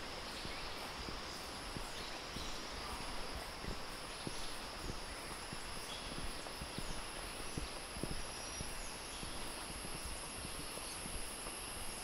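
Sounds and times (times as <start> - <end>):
faint bird chirps: 0.0 - 12.0
footsteps on paved road: 0.0 - 12.0.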